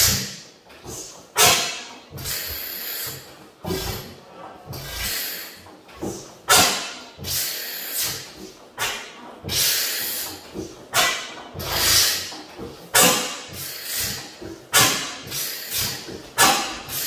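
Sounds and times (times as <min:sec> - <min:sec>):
engine hissing: 0:00.0 - 0:17.0.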